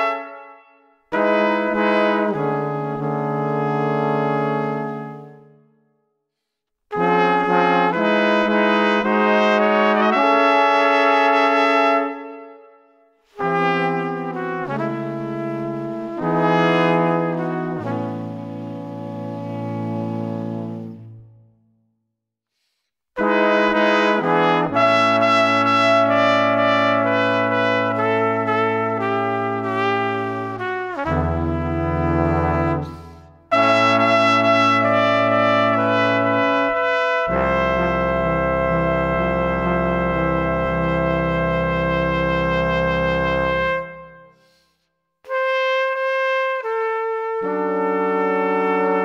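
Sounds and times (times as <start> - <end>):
brass melody of long notes: 0.0 - 5.9, 6.9 - 21.7, 23.2 - 49.0.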